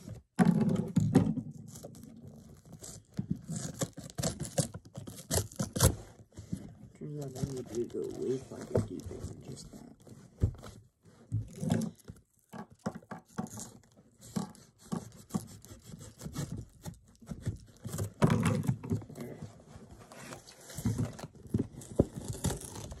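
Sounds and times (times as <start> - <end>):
hands handling cardboard box: 0.0 - 23.0.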